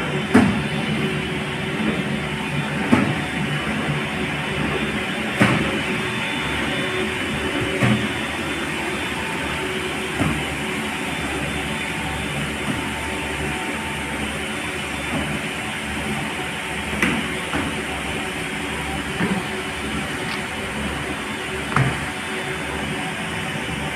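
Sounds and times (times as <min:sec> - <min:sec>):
belt conveyor machine hum: 0:00.0 - 0:23.9.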